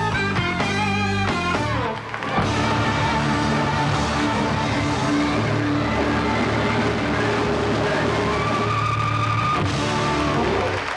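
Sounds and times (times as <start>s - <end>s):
distorted electric guitars sustaining: 0.0s - 10.7s
live rock band playing: 0.0s - 10.9s.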